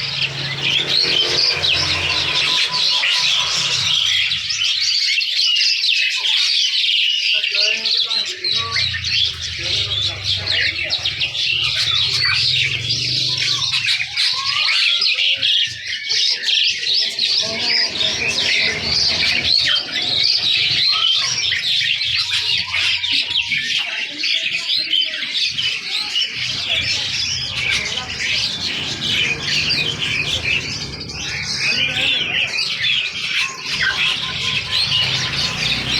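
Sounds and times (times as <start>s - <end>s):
birds chirping and squawking: 0.0s - 35.9s.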